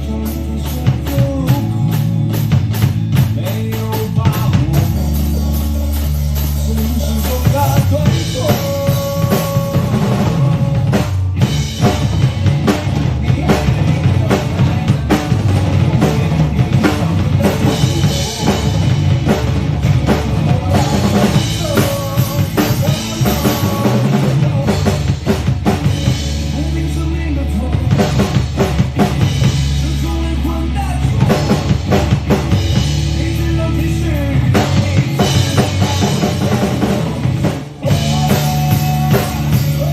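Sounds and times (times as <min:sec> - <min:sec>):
band backing track: 0:00.0 - 0:39.9
drum kit playing: 0:00.0 - 0:39.9.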